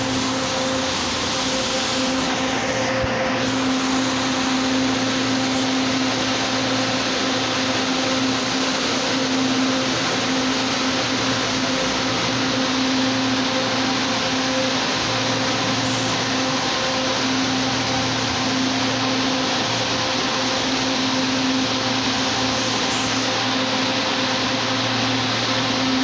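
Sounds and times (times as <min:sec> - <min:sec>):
train mechanical drone: 0:00.0 - 0:26.0.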